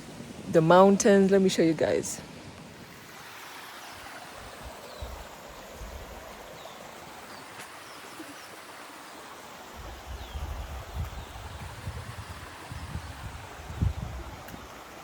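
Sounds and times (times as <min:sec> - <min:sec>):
stream water splashing: 0:02.6 - 0:15.0.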